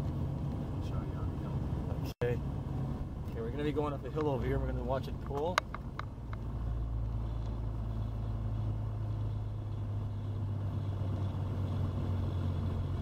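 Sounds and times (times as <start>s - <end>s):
diesel engine droning in cab: 0.0s - 13.0s.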